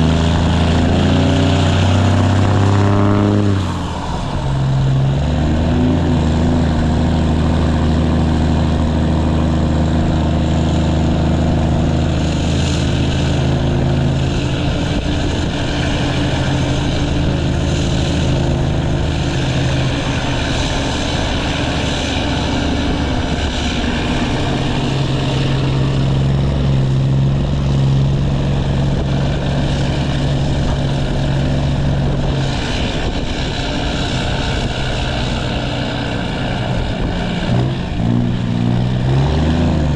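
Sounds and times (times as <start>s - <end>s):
diesel engine exhaust drone: 0.0s - 39.9s.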